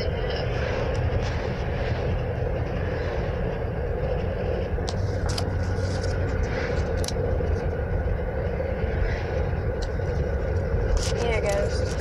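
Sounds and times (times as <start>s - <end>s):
car cabin engine and road rumble: 0.0s - 12.0s.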